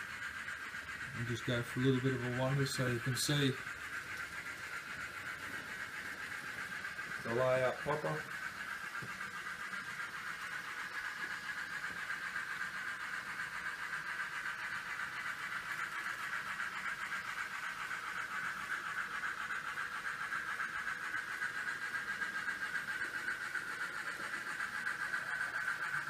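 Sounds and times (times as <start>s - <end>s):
model train whine: 0.0s - 26.0s.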